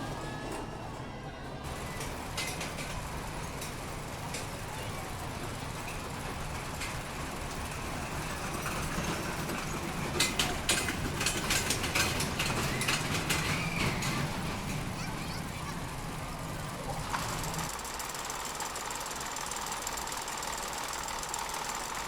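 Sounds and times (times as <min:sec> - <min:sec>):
ride machinery engine hum: 0:00.0 - 0:22.0.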